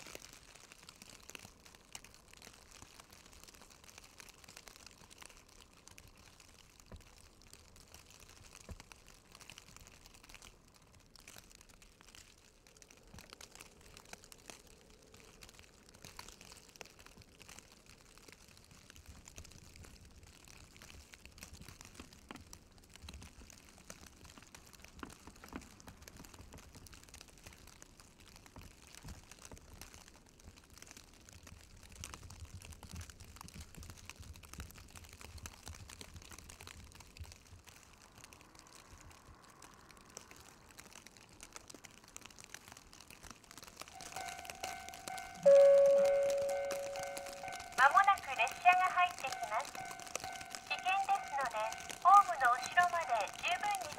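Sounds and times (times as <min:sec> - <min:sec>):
light steady crackle: 0:00.0 - 0:53.9.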